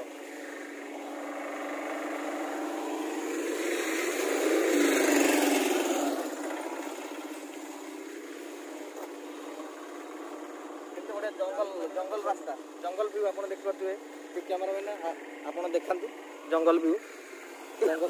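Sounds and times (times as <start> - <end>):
truck driving past: 0.0 - 18.0.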